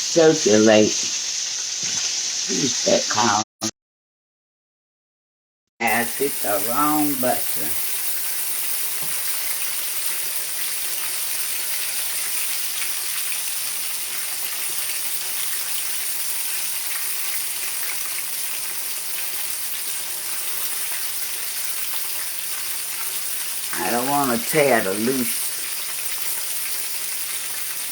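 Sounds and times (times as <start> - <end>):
chicken sizzling in oil: 0.0 - 3.3, 5.9 - 27.9.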